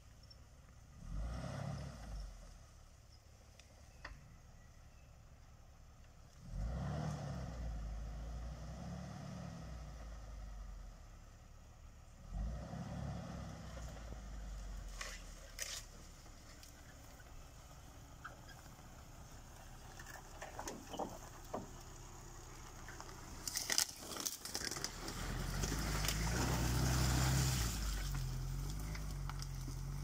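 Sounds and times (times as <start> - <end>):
low vehicle engine: 0.0 - 30.0.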